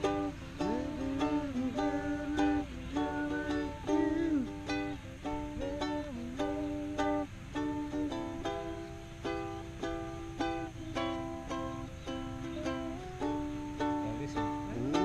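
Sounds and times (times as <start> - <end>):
ukulele strumming: 0.0 - 15.0.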